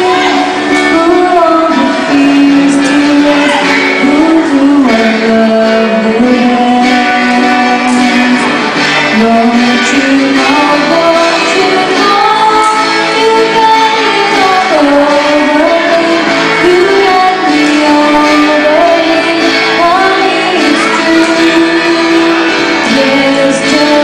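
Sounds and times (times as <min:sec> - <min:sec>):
acoustic guitar strumming: 0:00.0 - 0:24.0
man singing: 0:00.0 - 0:24.0
woman singing into microphone: 0:00.0 - 0:24.0.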